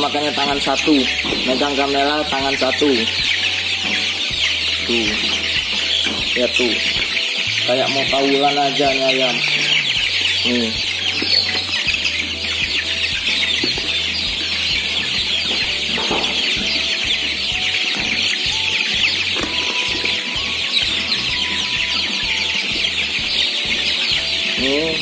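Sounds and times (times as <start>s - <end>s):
chicks peeping and chirping: 0.0s - 25.0s.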